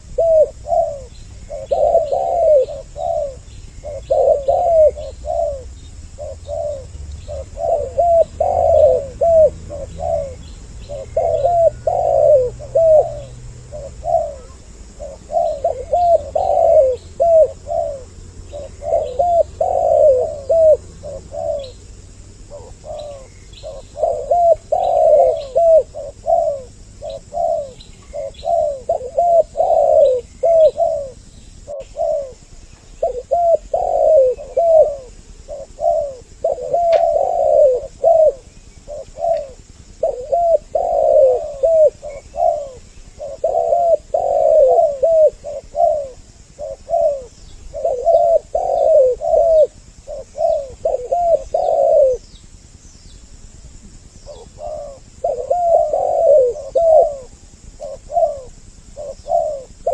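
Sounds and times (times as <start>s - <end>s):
doves cooing: 0.0s - 52.9s, 53.5s - 59.9s.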